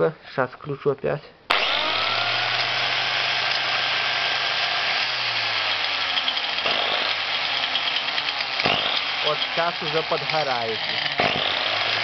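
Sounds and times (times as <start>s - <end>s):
angle grinder motor whining: 1.5s - 12.0s.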